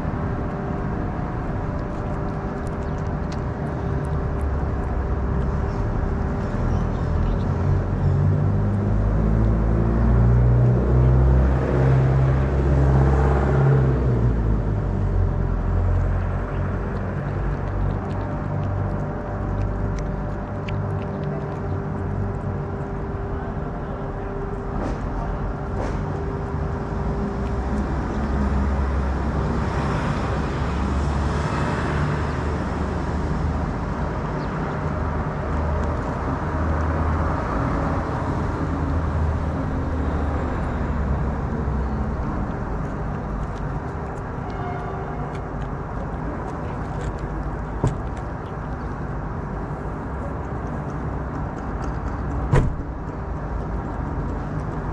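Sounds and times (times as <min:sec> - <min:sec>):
traffic noise: 0:00.0 - 0:54.9.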